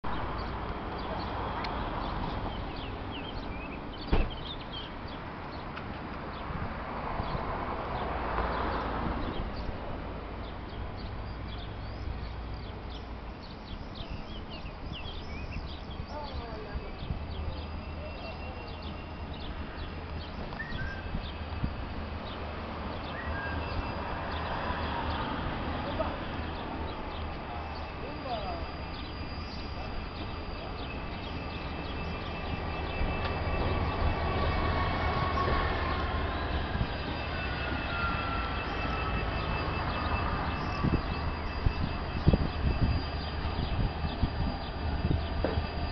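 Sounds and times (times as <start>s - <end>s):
diesel locomotive rumble: 0.0s - 45.9s
small birds chirping: 0.1s - 6.6s, 7.2s - 45.9s
train wheels rolling on track: 0.1s - 45.9s.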